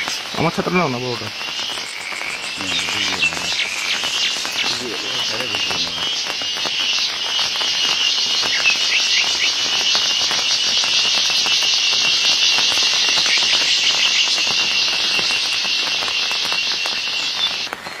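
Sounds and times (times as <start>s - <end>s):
insects buzzing chorus: 0.0s - 18.0s.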